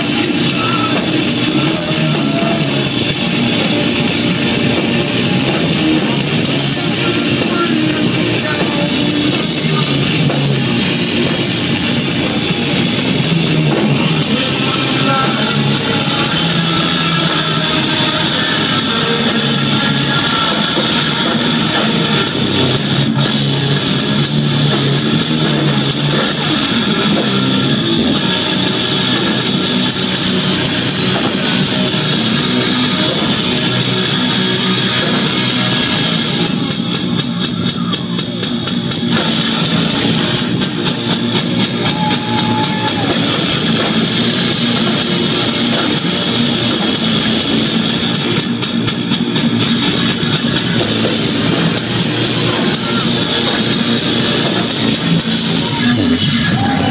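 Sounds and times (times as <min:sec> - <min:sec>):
distorted electric guitars and bass: 0:00.0 - 0:56.9
pounding drum kit: 0:00.0 - 0:56.9.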